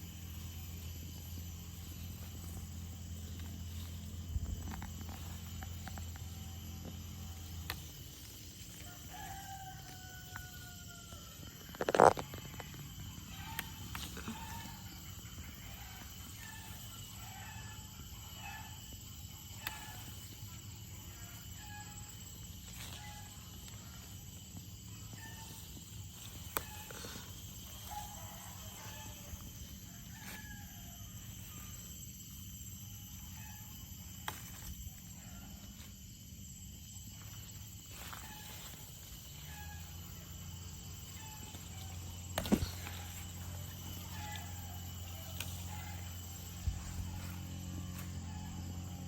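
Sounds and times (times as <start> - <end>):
steady low hum: 0.0 - 10.6, 12.2 - 49.0.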